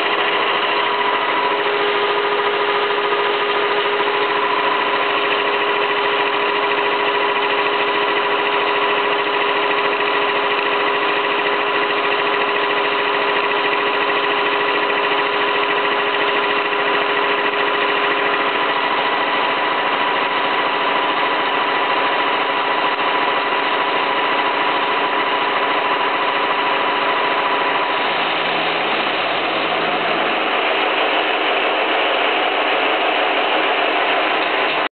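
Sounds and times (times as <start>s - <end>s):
machine whine: 0.0s - 34.9s
milling machine cutting steel: 0.0s - 34.9s.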